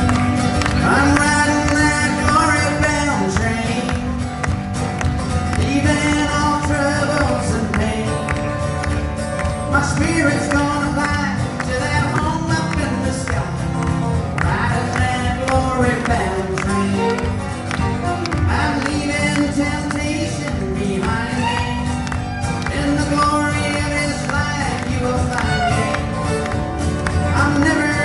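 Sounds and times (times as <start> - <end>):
man singing: 0.0 - 4.4, 5.4 - 8.9, 9.6 - 17.4, 18.0 - 26.1, 27.0 - 28.0
band accompaniment: 0.0 - 28.0
strummed acoustic guitar: 0.0 - 28.0.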